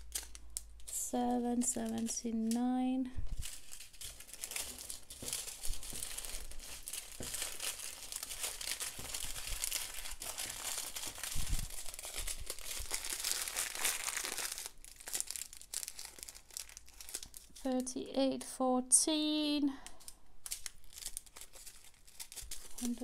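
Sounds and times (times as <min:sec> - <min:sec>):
plastic bags crinkling: 0:00.0 - 0:17.9, 0:19.8 - 0:23.0.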